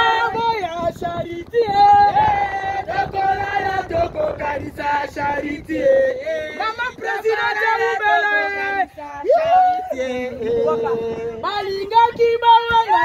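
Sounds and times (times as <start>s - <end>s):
voices singing together: 0.0s - 13.0s.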